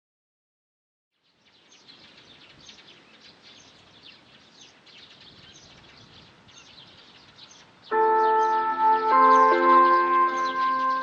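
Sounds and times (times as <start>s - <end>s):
small birds chirping: 1.2s - 11.0s.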